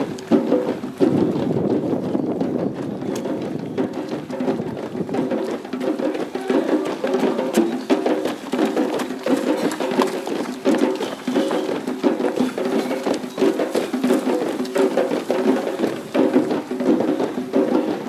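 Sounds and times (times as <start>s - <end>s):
group of drummers playing: 0.0s - 18.0s.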